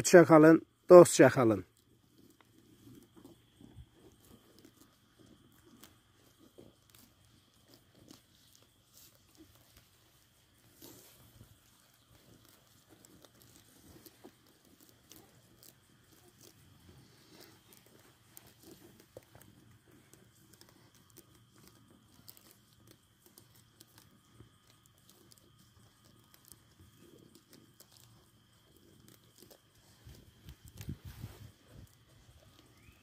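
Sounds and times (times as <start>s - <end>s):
sheep crunching and tearing grass: 0.9s - 33.0s.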